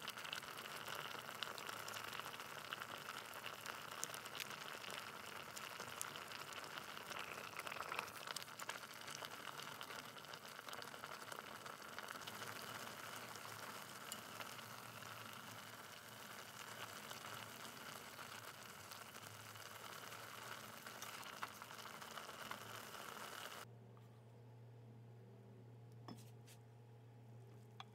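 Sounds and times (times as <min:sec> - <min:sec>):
water boiling in a pot: 0:00.0 - 0:23.7.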